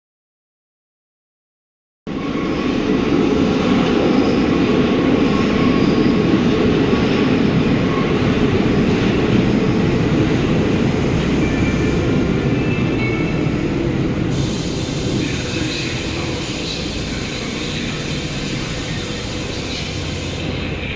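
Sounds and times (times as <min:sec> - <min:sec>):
train wheels rumbling on rails: 0:02.1 - 0:20.9.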